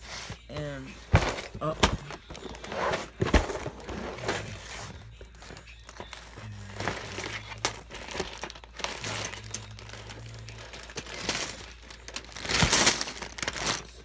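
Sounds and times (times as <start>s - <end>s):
plastic bags and cardboard crinkling: 0.0s - 14.0s.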